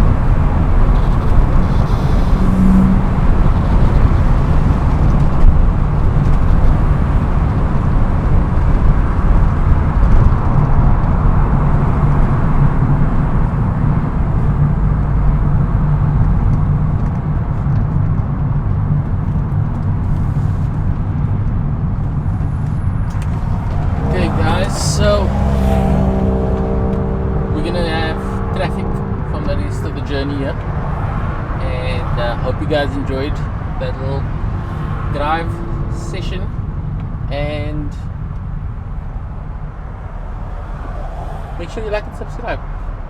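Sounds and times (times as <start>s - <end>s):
car engine droning: 0.0s - 43.0s
road noise: 0.0s - 43.0s.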